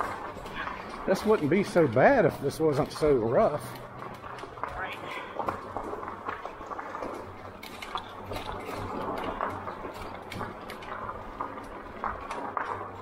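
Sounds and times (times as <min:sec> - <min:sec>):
bike tyres crunching over gravel: 0:00.0 - 0:13.0.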